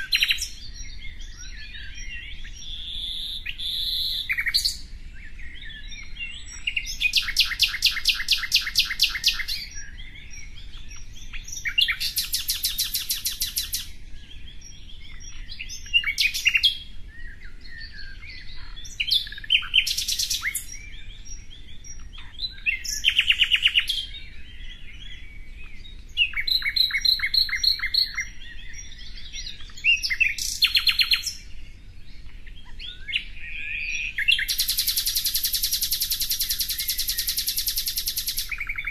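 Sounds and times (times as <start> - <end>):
soft bird chirps and twitters: 0.0 - 38.9.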